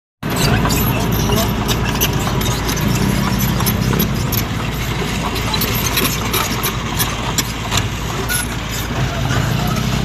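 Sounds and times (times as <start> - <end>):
diesel engine running: 0.2 - 10.0
steel tracks clanking on road: 0.2 - 10.0.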